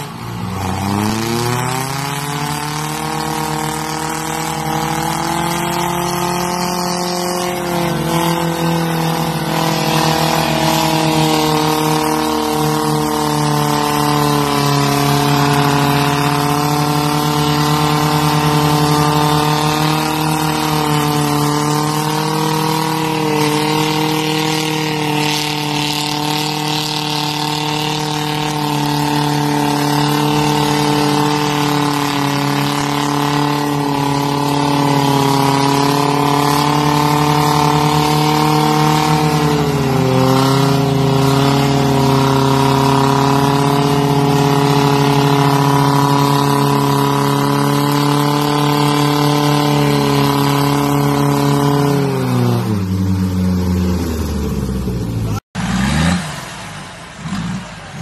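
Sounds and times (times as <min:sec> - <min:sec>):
engines at high revs: 0:00.0 - 0:58.0
tires spinning in a burnout: 0:00.0 - 0:58.0.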